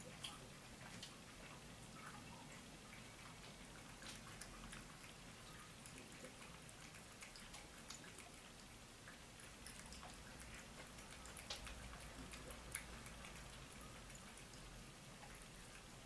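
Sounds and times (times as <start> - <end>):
cat lapping water: 0.0 - 16.0.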